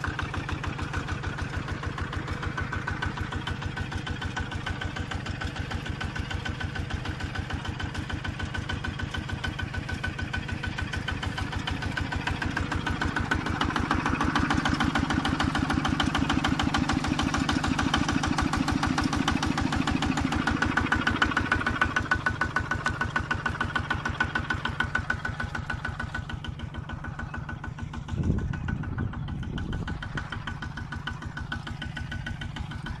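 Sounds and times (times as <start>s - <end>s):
tractor engine chugging: 0.0s - 33.0s.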